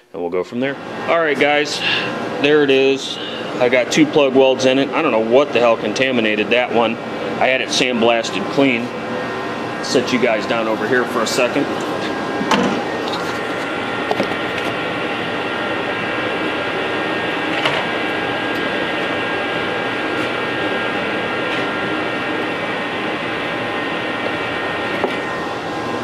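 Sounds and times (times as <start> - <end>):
motor-driven machine humming: 0.0 - 26.0.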